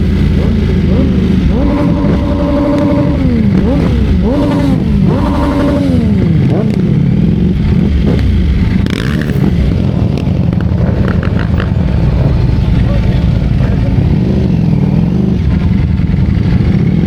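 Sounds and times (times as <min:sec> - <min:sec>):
motorcycle engine revving: 0:00.0 - 0:17.0
wind and road noise: 0:00.0 - 0:17.0.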